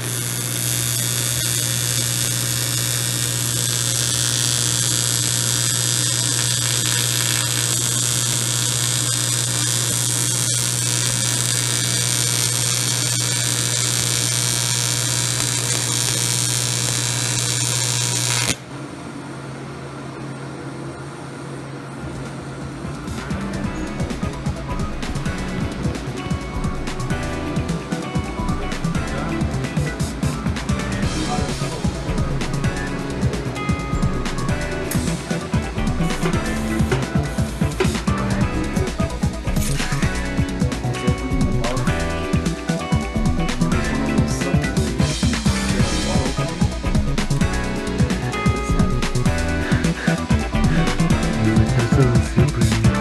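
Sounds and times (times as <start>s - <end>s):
welding arc buzzing and crackling: 0.0s - 18.7s, 23.3s - 53.0s
welder humming: 0.0s - 18.8s, 23.2s - 53.0s.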